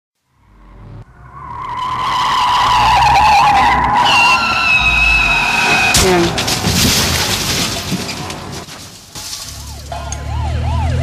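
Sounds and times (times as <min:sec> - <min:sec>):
car tyres screeching: 0:00.4 - 0:10.4.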